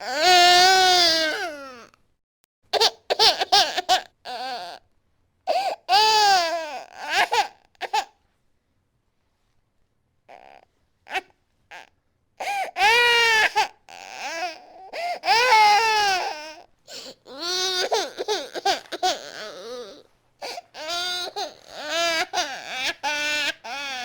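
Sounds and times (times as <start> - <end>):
baby crying: 0.0 - 1.9, 2.8 - 4.8, 5.5 - 8.1, 10.3 - 24.0.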